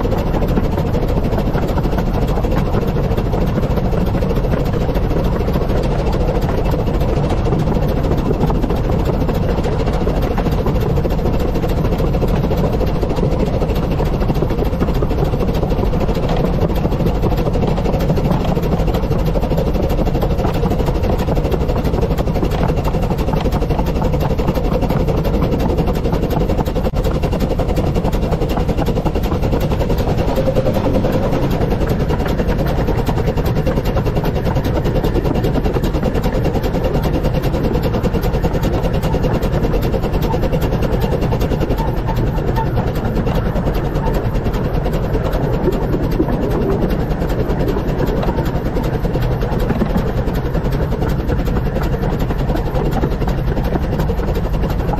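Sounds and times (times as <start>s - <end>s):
steam train rumbling: 0.0s - 54.9s.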